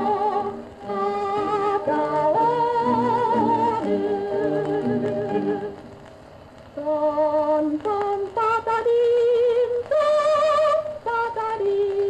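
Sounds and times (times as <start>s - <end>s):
woman singing with vibrato: 0.0s - 5.8s, 6.8s - 12.0s.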